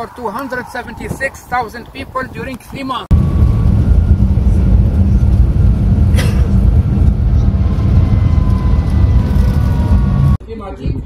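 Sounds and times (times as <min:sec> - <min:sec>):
vehicle engine rumble: 0:00.0 - 0:10.4
road noise: 0:00.0 - 0:10.7.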